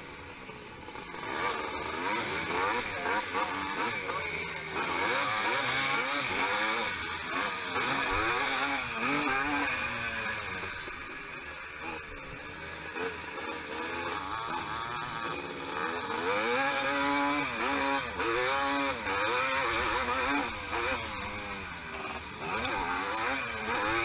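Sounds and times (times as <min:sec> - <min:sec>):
dirt bike engine revving: 0:00.0 - 0:24.0
other dirt bikes racing: 0:00.0 - 0:24.0.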